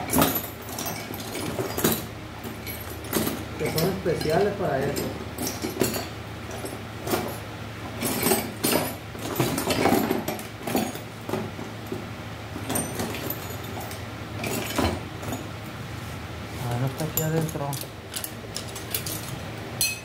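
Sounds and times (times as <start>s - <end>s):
metal tools clattering: 0.0s - 7.4s, 8.0s - 11.1s, 12.6s - 15.5s, 16.7s - 20.0s.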